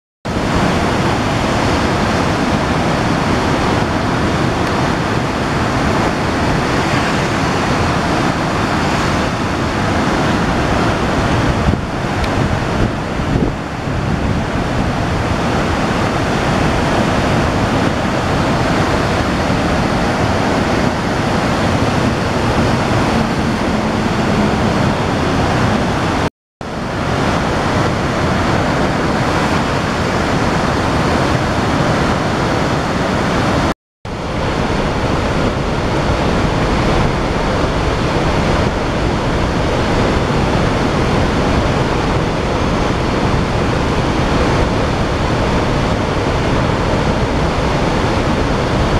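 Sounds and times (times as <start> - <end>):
rushing white water: 0.3 - 48.9.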